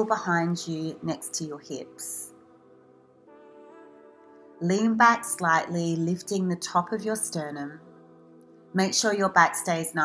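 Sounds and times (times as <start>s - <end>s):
soft sustained chord music: 0.0s - 10.0s.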